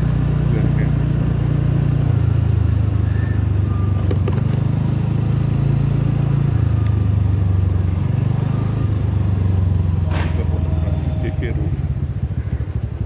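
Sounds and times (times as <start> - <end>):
motorbike engine rumble: 0.0 - 13.0.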